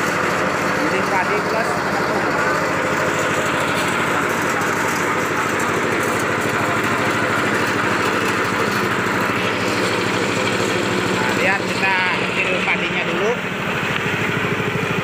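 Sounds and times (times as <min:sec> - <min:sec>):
rice mill running: 0:00.0 - 0:15.0.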